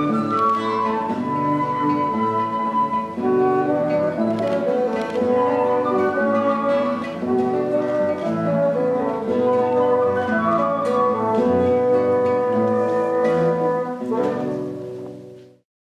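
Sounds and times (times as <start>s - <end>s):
strummed and plucked guitars: 0.0s - 15.6s.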